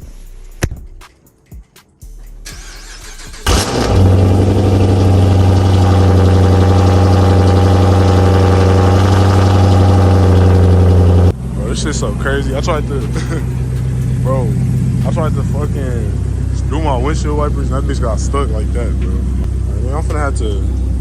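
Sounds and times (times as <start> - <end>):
car engine cranking: 2.3 - 20.2
car engine idling: 2.5 - 21.0.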